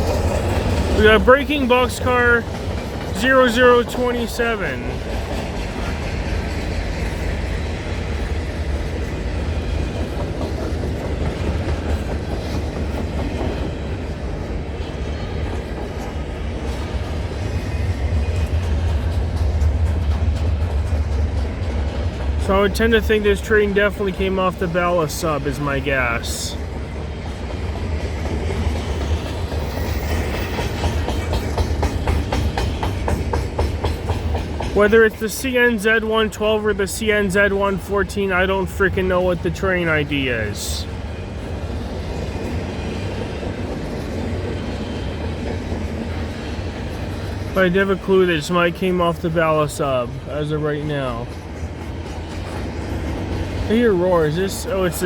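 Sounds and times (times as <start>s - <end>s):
wheels clicking over rail joints: 0.0s - 39.9s, 40.5s - 55.0s
train wheels rumbling on rail: 0.0s - 55.0s.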